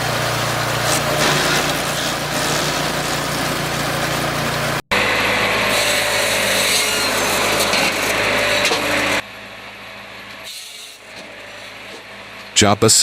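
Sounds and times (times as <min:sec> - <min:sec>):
machine sawing wood: 0:00.0 - 0:12.7.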